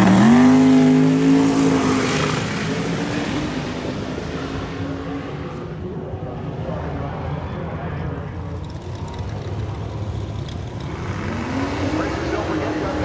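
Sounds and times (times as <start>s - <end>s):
drag car engine revving: 0.0s - 5.6s, 7.1s - 13.0s.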